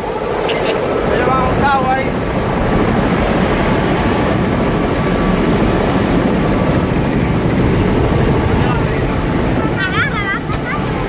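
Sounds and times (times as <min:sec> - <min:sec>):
helicopter engine and rotor: 0:00.0 - 0:11.0
thin high whine: 0:00.0 - 0:11.0.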